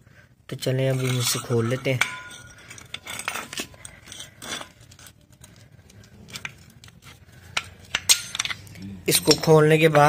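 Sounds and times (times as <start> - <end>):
metal parts clinking on concrete: 0.8 - 10.0.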